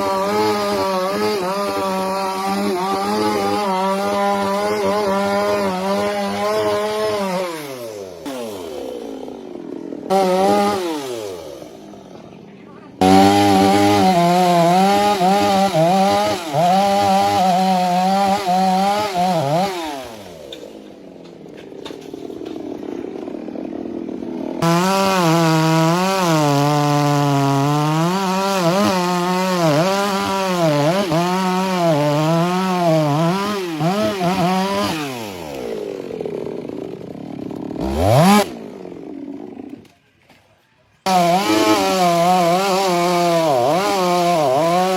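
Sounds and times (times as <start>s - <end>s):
chainsaw cutting wood: 0.0s - 40.4s, 41.0s - 44.9s.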